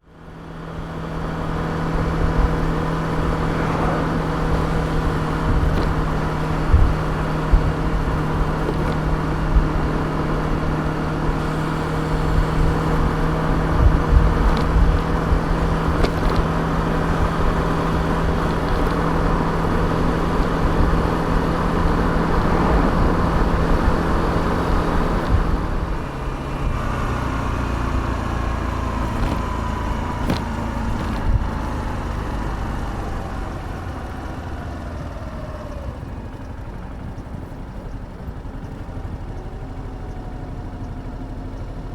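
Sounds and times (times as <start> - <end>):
scooter engine running: 0.0 - 41.9
wind rumbling on microphone: 0.7 - 37.5.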